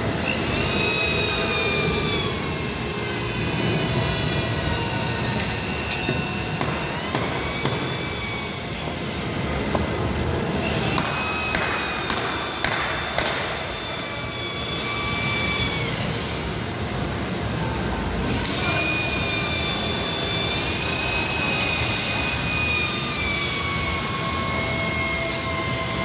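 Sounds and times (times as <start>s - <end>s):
power drill motor whine: 0.0s - 26.0s
drill biting into metal: 0.2s - 17.2s, 18.2s - 26.0s.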